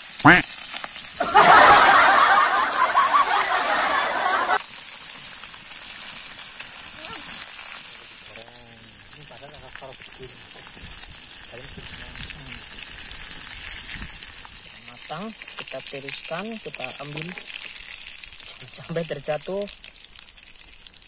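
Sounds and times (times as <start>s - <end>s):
fish sizzling in hot oil: 0.0s - 1.2s, 4.6s - 21.0s.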